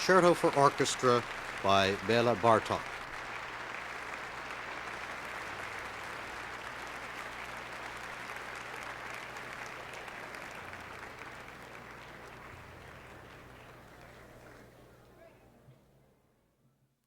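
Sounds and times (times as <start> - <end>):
audience applauding: 0.0 - 14.7.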